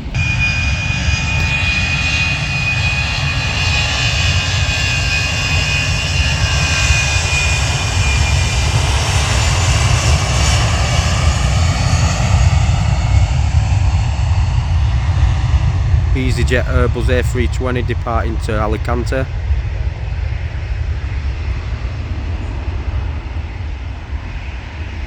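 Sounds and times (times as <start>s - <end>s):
jet airliner engine noise: 0.0s - 25.0s.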